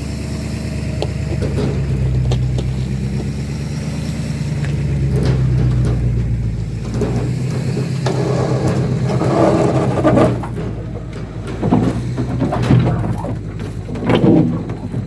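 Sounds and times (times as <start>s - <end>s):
vehicle engine running under load: 0.0s - 15.0s
sharp knocks and clanks: 0.9s - 15.0s.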